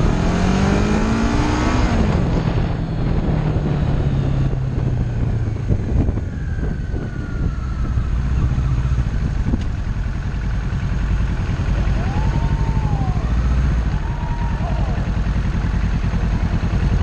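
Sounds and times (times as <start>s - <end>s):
motorcycle engine at low revs: 0.0s - 17.0s
riding wind noise: 0.0s - 17.0s.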